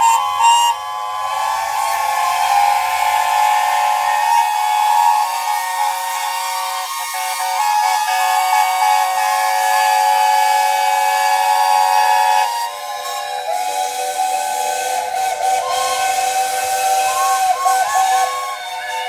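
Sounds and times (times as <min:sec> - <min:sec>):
steam hissing: 0:00.0 - 0:19.0
steam whistles blowing: 0:00.0 - 0:19.0.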